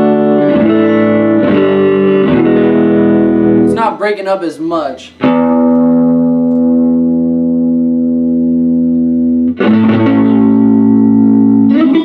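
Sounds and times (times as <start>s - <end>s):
electric guitar chords: 0.0s - 4.0s, 5.1s - 12.0s.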